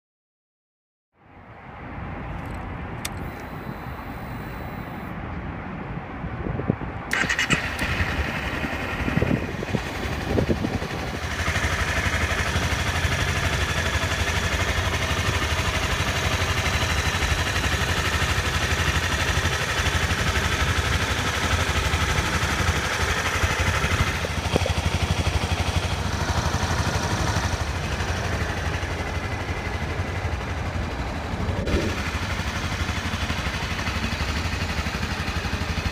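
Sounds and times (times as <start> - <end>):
motorcycle engine running: 7.1 - 35.9.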